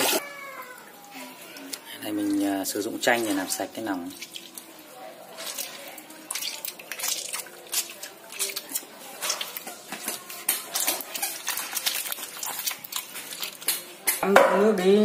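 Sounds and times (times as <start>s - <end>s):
wet squelching of kneaded intestines: 0.0s - 14.2s.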